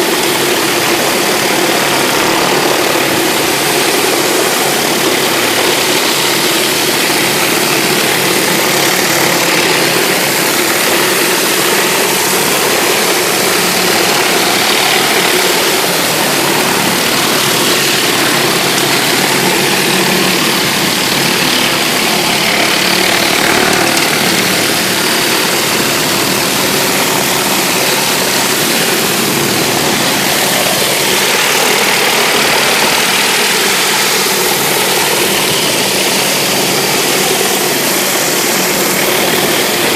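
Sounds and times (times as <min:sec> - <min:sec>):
pressure washer engine running: 0:00.0 - 0:39.9
water spraying onto concrete: 0:00.0 - 0:39.9.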